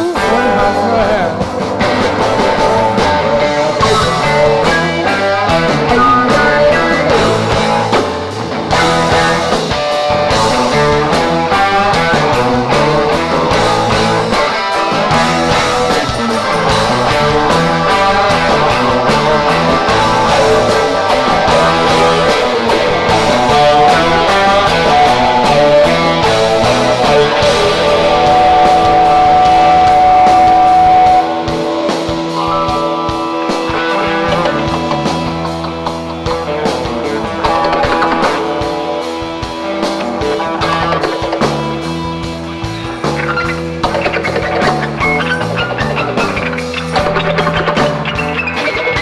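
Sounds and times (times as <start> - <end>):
bass: 0.0 - 49.0
drums: 0.0 - 49.0
electric guitar: 0.0 - 49.0.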